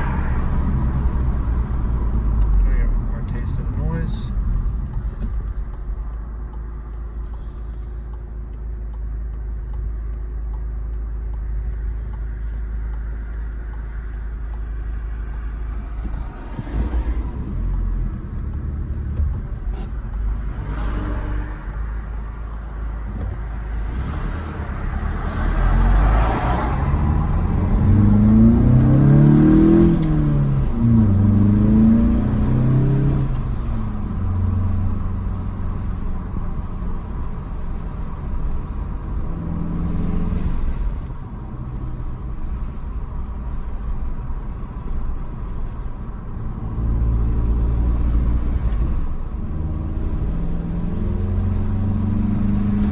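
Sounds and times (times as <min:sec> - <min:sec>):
car engine accelerating: 0:00.0 - 0:52.9.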